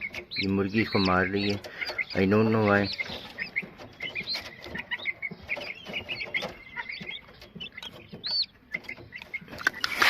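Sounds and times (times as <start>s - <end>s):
chicks peeping and chirping: 0.0s - 10.0s
hen clucking: 0.0s - 10.0s.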